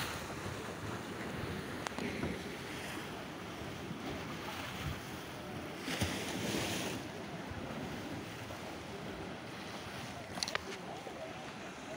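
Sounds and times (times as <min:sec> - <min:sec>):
sea waves washing against rocks: 0:00.0 - 0:11.9.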